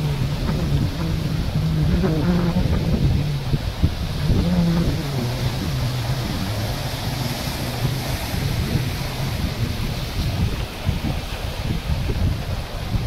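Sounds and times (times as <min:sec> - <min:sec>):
sea waves breaking on rocks: 0:00.0 - 0:13.0
wind rumbling on microphone: 0:00.0 - 0:13.0.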